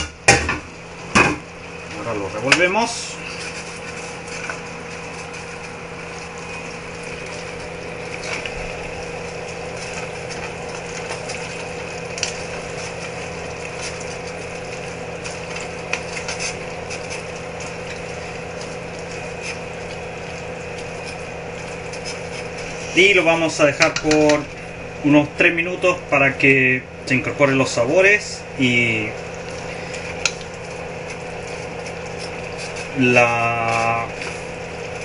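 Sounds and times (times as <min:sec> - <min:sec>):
steady mechanical hum: 0:00.0 - 0:35.0.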